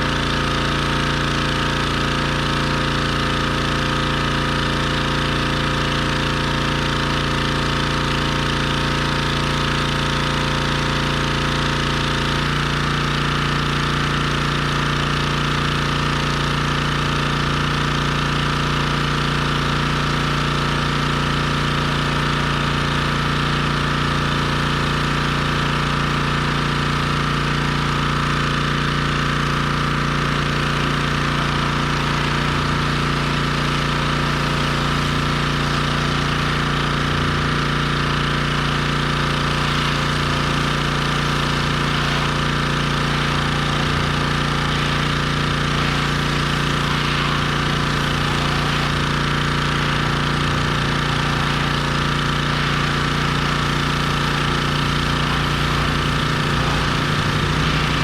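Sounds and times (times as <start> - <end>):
pressure washer engine running: 0.0 - 58.0.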